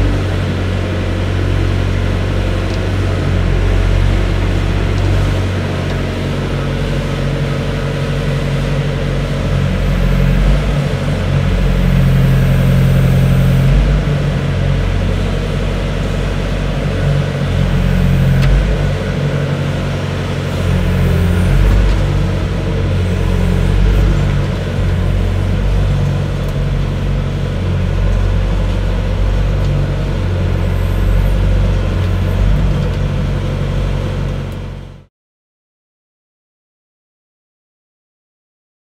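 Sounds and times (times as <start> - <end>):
excavator diesel engine running: 0.0 - 35.1.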